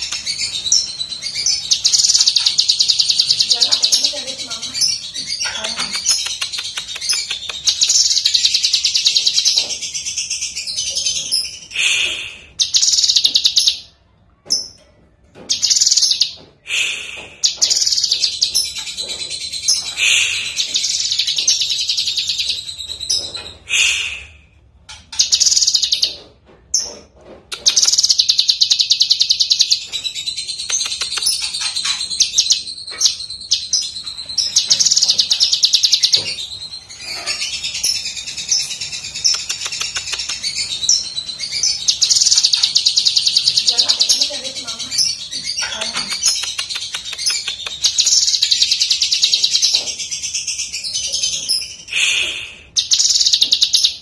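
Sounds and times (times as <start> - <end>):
bird singing chattering song: 0.0 - 54.0.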